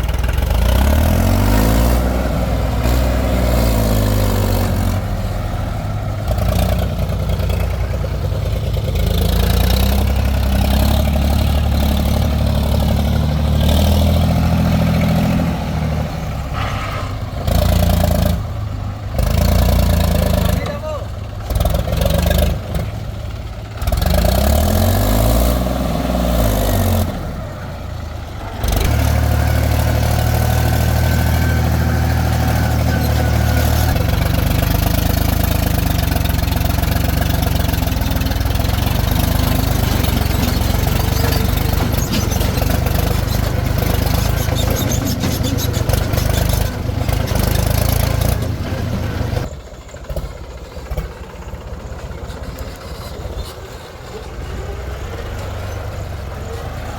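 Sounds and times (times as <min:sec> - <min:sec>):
heavy diesel engine revving: 0:00.0 - 0:56.9.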